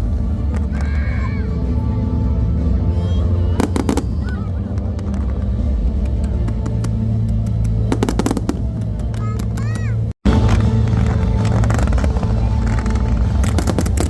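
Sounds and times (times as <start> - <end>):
fireworks bangs and crackles: 0.0 - 1.1, 3.5 - 14.0
music: 0.0 - 14.0.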